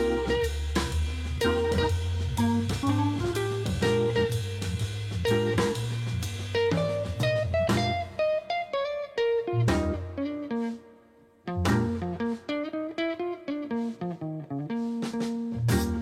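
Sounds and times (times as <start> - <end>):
bass: 0.0 - 8.5, 9.4 - 10.8, 11.5 - 12.5, 13.8 - 16.0
drum kit: 0.0 - 10.8, 11.5 - 16.0
plucked guitar: 0.0 - 16.0.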